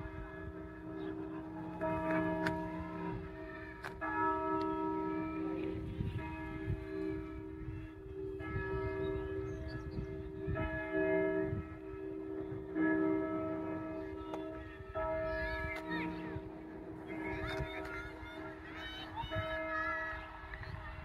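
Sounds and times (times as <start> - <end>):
church bells ringing: 0.0 - 20.5.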